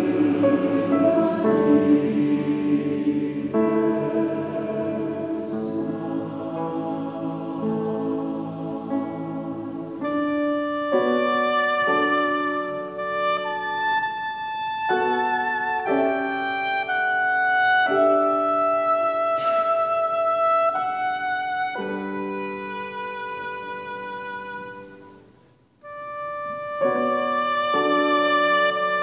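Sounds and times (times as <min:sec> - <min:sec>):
low sustained accompaniment: 0:00.0 - 0:24.8
oboe solo melody: 0:00.0 - 0:25.2, 0:25.8 - 0:29.0.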